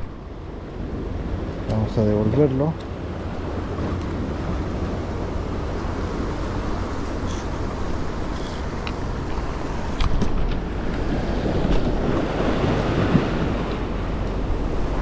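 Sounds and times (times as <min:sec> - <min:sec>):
sea surf on rocks: 0:00.0 - 0:15.0
wind buffeting microphone: 0:00.0 - 0:15.0.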